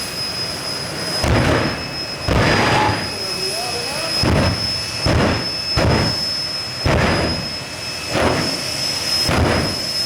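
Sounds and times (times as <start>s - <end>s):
loud rushing engine surges: 0.0s - 10.0s
turbine engine whining: 0.0s - 10.0s.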